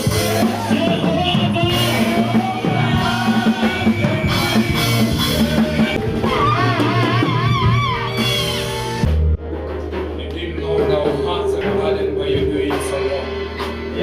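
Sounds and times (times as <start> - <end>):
gospel band playing: 0.0 - 14.0.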